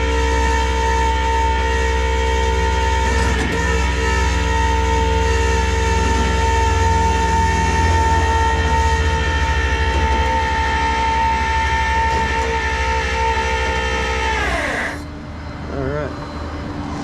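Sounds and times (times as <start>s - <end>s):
hydraulic winch whine: 0.0s - 15.4s
truck engine throb: 0.0s - 16.1s.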